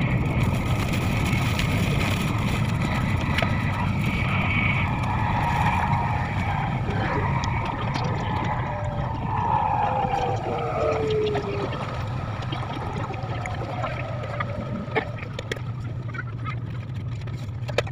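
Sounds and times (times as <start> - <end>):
whine falling in pitch: 0.0 - 17.2
train low rumble: 0.0 - 17.9.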